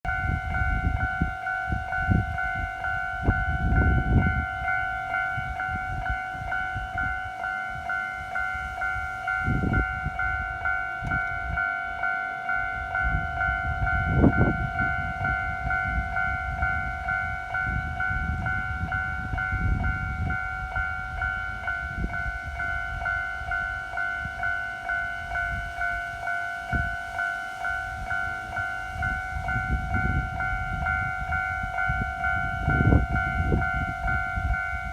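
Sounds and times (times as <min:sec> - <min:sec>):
level-crossing warning bell: 0:00.0 - 0:34.9.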